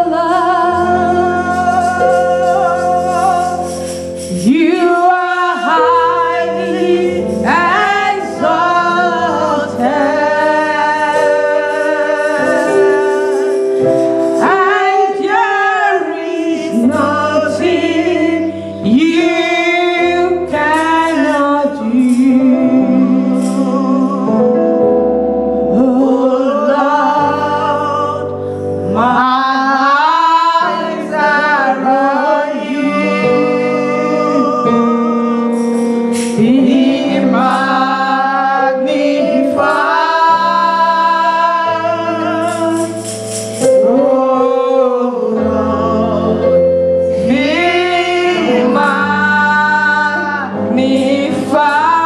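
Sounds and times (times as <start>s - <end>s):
choir singing gospel song: 0.0s - 52.0s.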